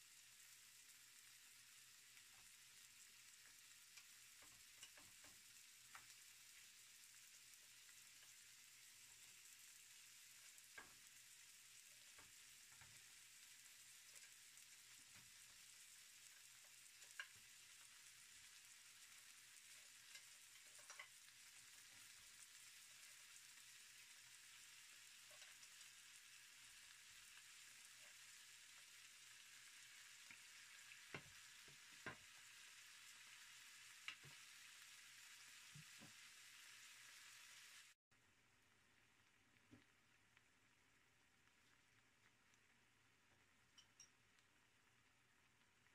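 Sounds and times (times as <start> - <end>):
food sizzling in pan: 0.0 - 45.9.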